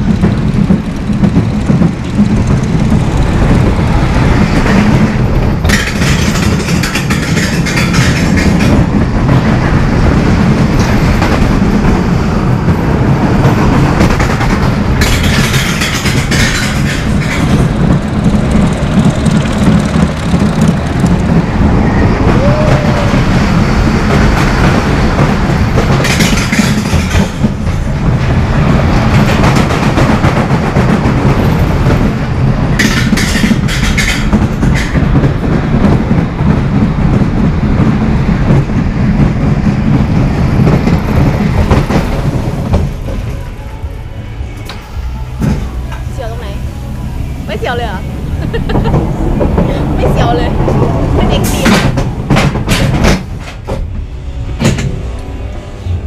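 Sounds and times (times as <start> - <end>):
roller coaster wheels rumbling on track: 0.0 - 56.0.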